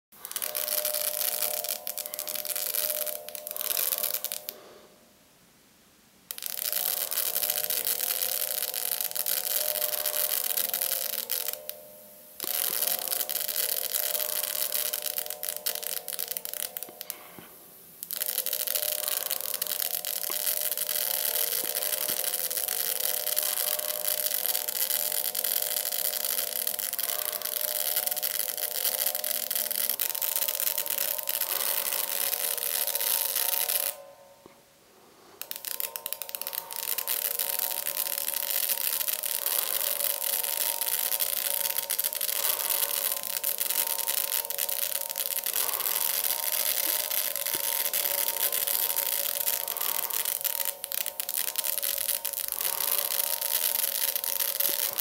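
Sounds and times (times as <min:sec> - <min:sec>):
sparks snapping: 0:00.1 - 0:04.6, 0:06.3 - 0:34.0, 0:35.4 - 0:55.0
steady hiss: 0:00.1 - 0:55.0.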